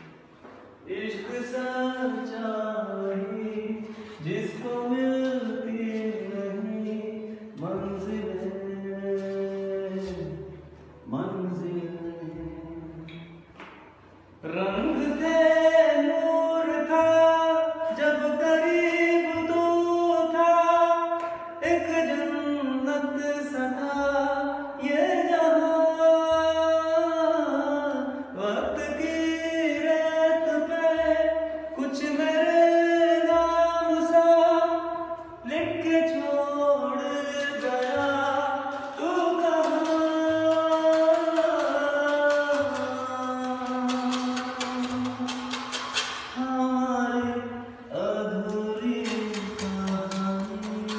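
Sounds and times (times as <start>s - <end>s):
man singing: 0.6s - 13.4s, 14.4s - 50.9s.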